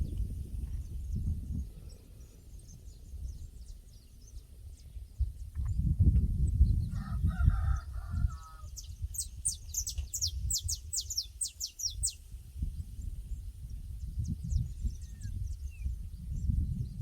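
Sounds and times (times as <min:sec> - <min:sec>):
high songbird chirps: 0:00.0 - 0:17.0
low wind rumble: 0:00.0 - 0:17.0.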